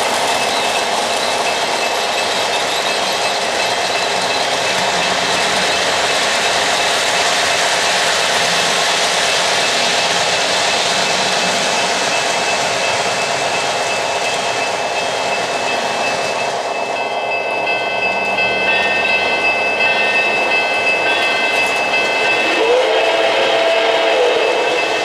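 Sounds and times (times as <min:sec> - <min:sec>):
model trains rolling whir: 0:00.0 - 0:25.0
steady high tones: 0:00.3 - 0:22.8.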